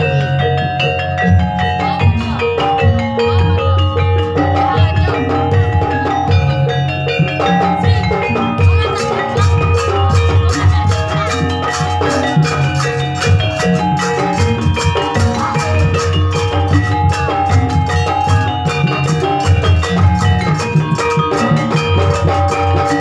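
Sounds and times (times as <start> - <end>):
drum strokes: 0.0 - 23.0
high metallic beats: 0.0 - 23.0
tuned metal percussion melody: 0.0 - 23.0.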